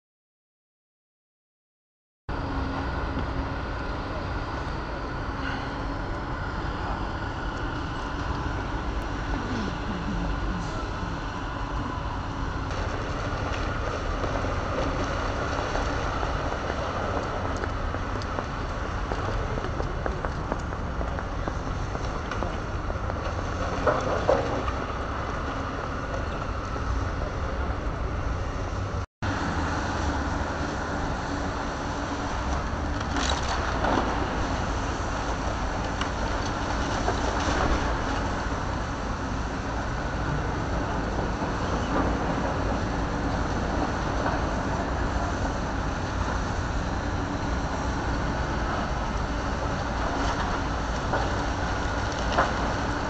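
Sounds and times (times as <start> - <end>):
excavator running: 2.3 - 53.0
street traffic: 2.3 - 53.0.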